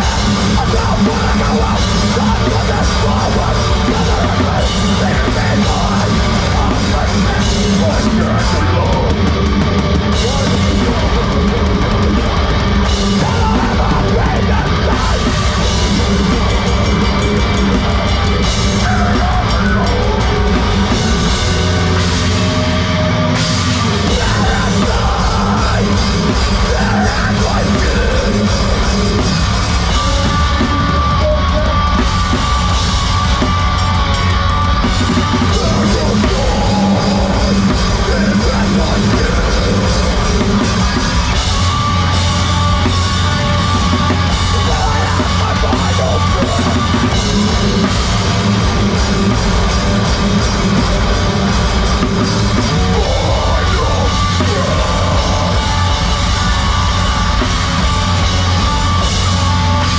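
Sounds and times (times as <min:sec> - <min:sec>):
heavy rock band playing live: 0:00.0 - 0:59.9
pounding drum kit: 0:00.0 - 0:59.9.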